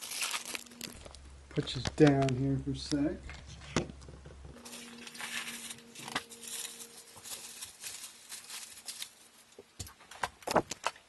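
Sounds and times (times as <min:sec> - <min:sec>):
faint steady hum: 0:00.0 - 0:10.2
plastic packaging crinkling: 0:00.0 - 0:11.0.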